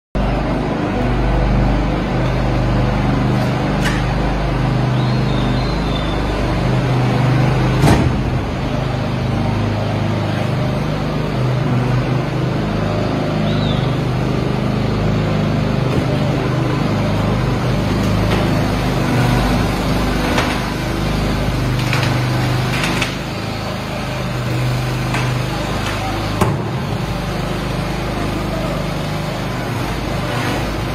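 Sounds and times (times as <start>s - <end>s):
concrete equipment engine drone: 0.2s - 30.9s.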